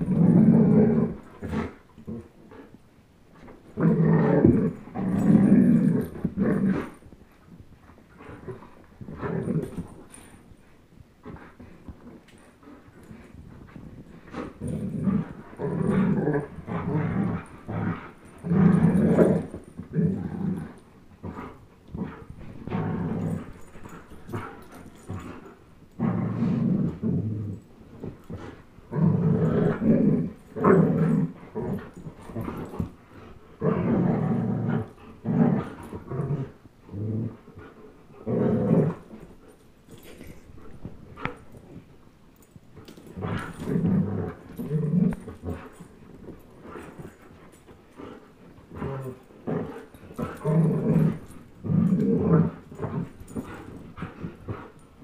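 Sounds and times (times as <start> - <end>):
dogs growling in play: 0.0 - 55.0.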